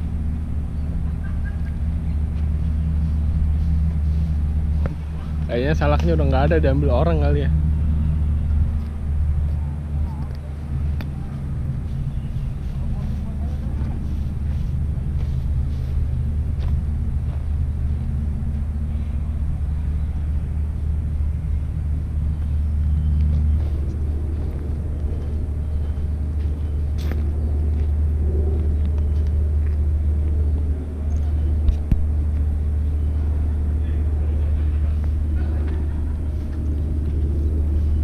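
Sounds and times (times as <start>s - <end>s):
low rumble: 0.0s - 38.0s
low steady hum: 0.0s - 38.0s.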